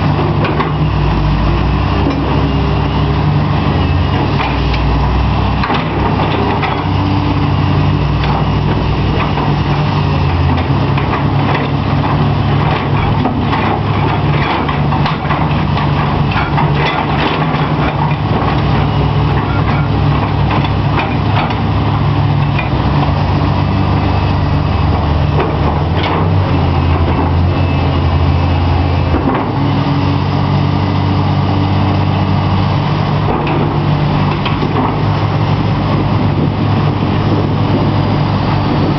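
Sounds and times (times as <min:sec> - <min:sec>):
excavator diesel engines: 0:00.0 - 0:38.9.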